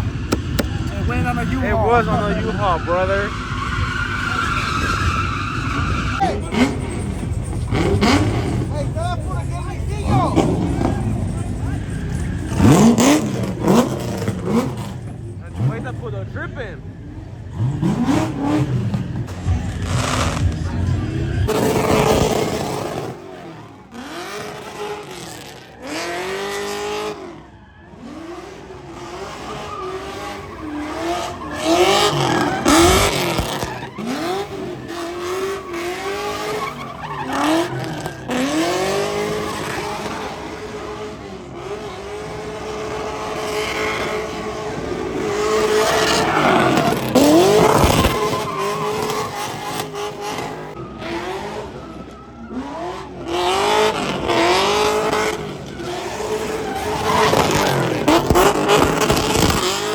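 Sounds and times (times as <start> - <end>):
tyres squealing: 0.0 - 16.6, 17.6 - 50.8, 51.4 - 59.9
car engine revving: 0.0 - 59.9.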